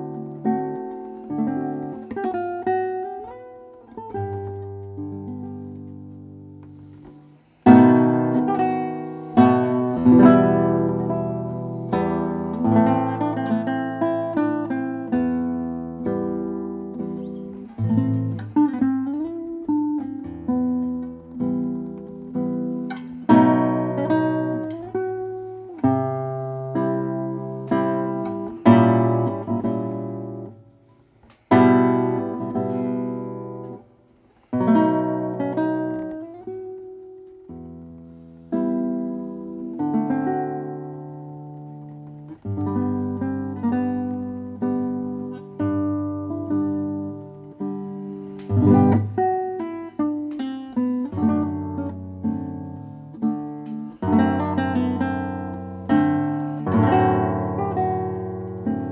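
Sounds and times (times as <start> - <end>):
classical guitar fingerstyle: 0.0 - 58.9.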